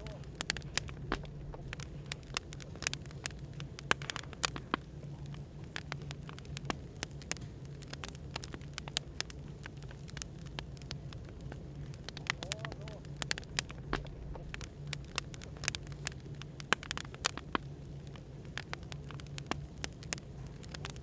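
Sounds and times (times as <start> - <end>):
cafe background hum: 0.0 - 21.0
wood fire crackling: 0.0 - 21.0.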